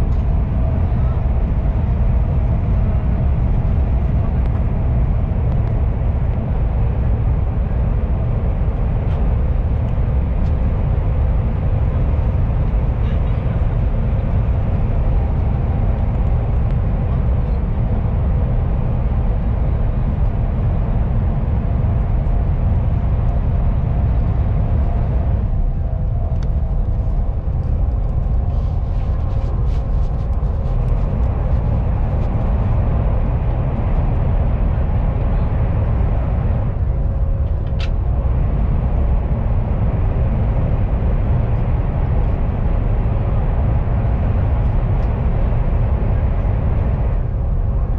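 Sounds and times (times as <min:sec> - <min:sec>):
train running low rumble: 0:00.0 - 0:47.9.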